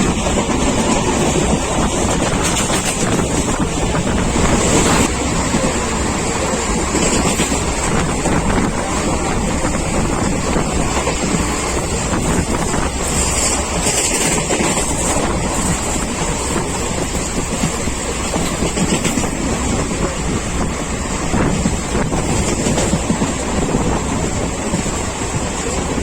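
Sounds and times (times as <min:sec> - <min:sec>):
passenger train moving at speed: 0:00.0 - 0:26.0
wind on microphone: 0:00.0 - 0:26.0.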